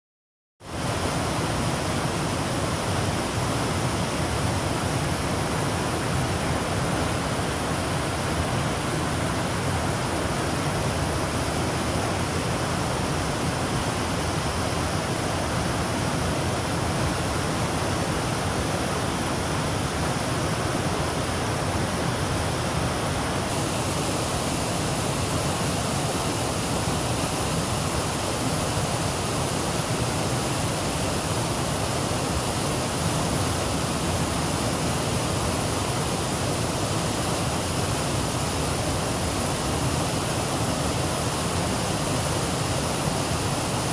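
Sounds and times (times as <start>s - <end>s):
creek water rushing: 0.7s - 43.9s.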